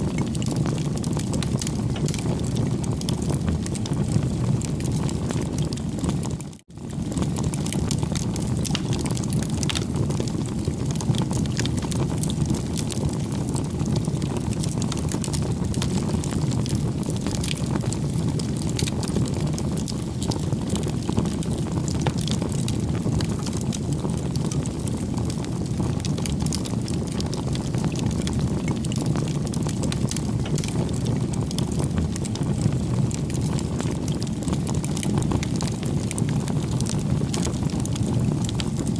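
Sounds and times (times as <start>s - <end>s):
fire crackles and pops: 0.0s - 38.9s
wood fire burning: 0.0s - 38.9s.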